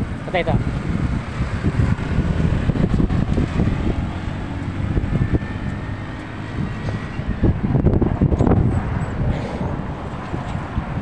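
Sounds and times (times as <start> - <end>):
motorcycle passing: 0.0 - 11.0
wind buffeting microphone: 0.0 - 11.0.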